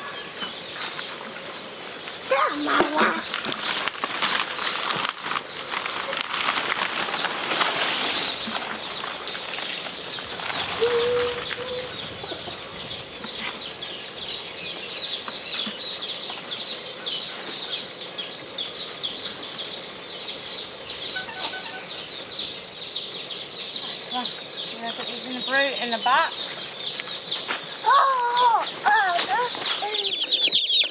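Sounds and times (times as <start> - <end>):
baby chicks peeping: 0.0 - 30.9.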